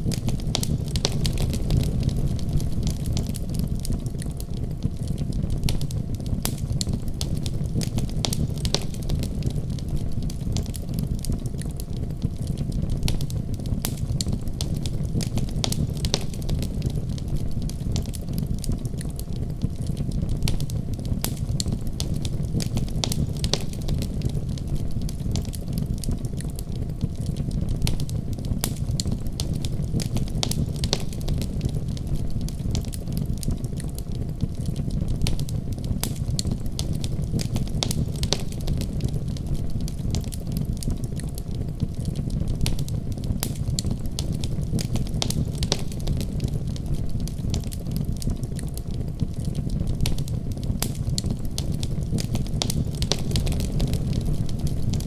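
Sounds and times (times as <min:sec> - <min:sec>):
fire crackles and pops: 0:00.0 - 0:55.0
wood fire burning: 0:00.0 - 0:55.0.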